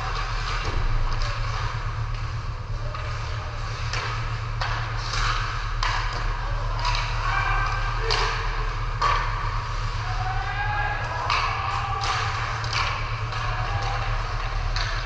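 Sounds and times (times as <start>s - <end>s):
hockey sticks hitting puck: 0.0s - 15.0s
skates scraping ice: 0.0s - 15.0s
steady low hum: 0.0s - 15.0s.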